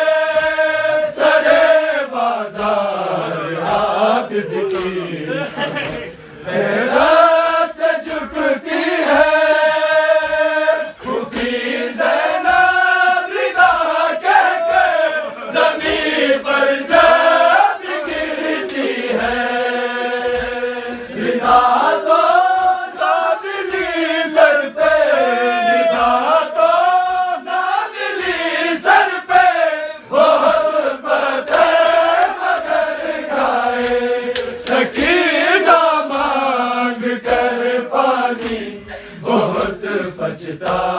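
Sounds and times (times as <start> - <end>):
men chanting a lament: 0.0 - 40.9.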